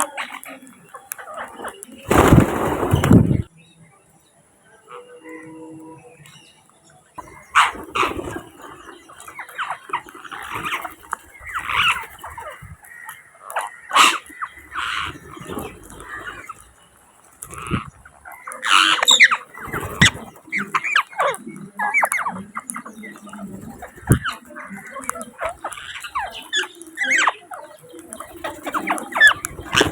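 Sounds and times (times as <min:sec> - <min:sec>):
parakeets squawking and chattering: 0:00.0 - 0:03.5, 0:07.2 - 0:29.9.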